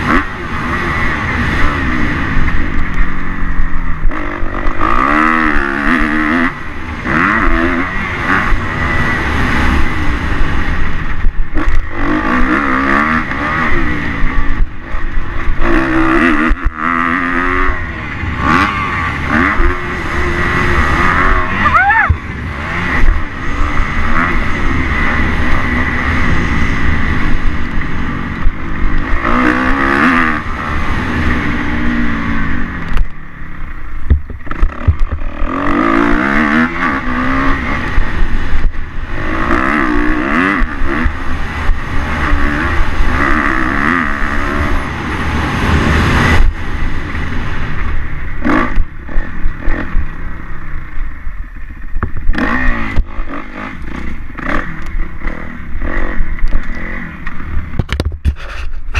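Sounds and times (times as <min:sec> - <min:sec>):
motocross bike engine revving: 0:00.0 - 0:58.9
wind rushing on microphone: 0:00.0 - 0:58.9.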